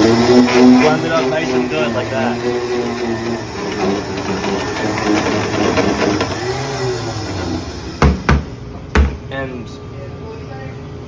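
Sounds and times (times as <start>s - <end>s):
heavy thumps: 0.0s - 9.3s
spindle mixer running: 0.0s - 9.3s.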